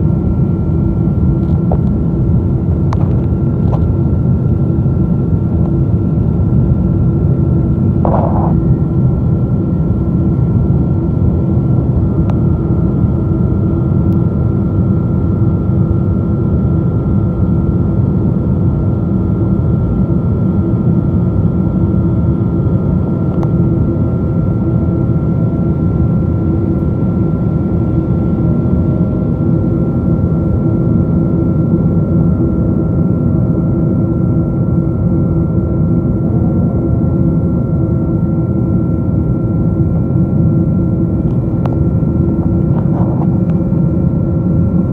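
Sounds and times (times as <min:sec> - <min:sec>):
jet cabin engine rumble: 0:00.0 - 0:44.9
steady engine whine: 0:00.0 - 0:44.9.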